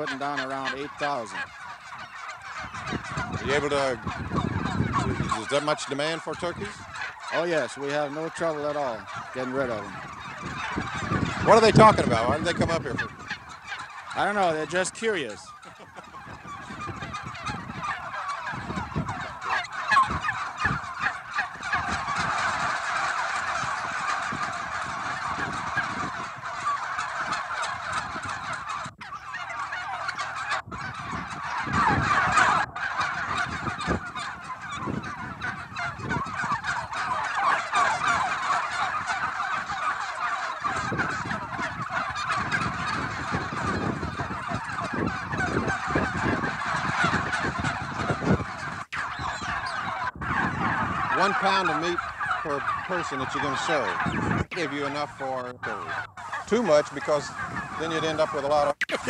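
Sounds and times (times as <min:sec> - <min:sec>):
turkeys gobbling: 0:00.0 - 0:59.0.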